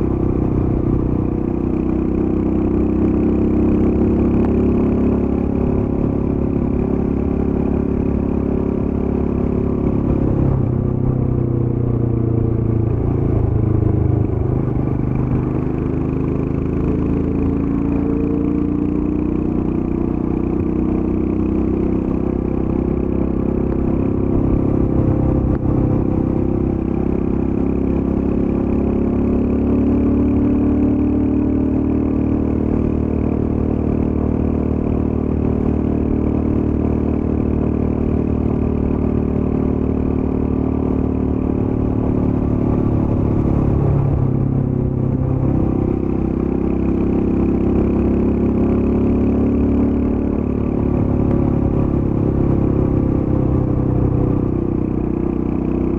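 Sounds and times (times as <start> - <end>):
single-cylinder motorcycle engine running: 0.0 - 55.9.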